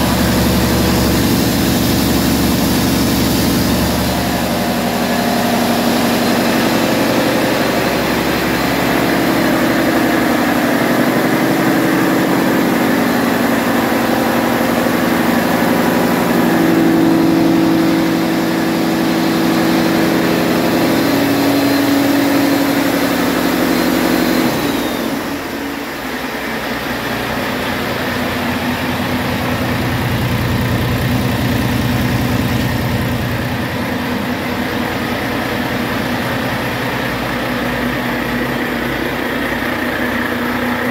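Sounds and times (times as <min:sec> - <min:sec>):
diesel engine revving and idling: 0:00.0 - 0:40.9.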